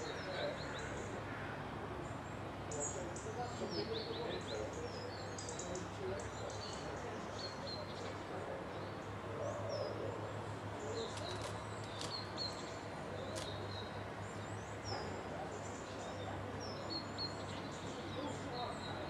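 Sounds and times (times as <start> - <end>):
constant hiss: 0.0 - 19.0
small birds chirping: 0.0 - 19.0.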